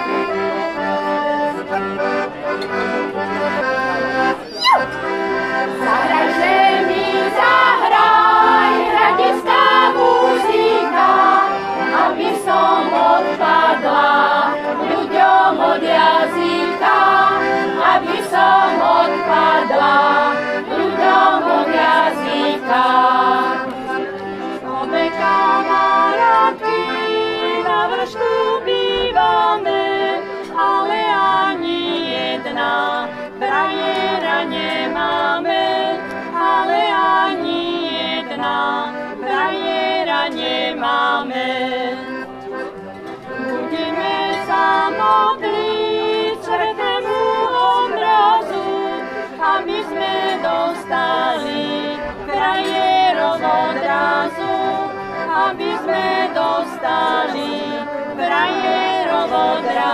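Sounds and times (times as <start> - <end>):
piano accordion: 0.0 - 59.9
women's choir singing: 0.0 - 59.9.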